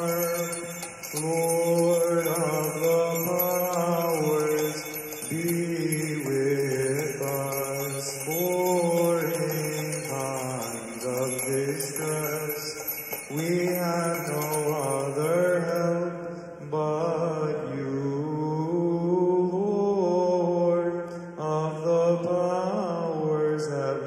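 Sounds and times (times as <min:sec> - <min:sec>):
person chanting a melody: 0:00.0 - 0:24.0.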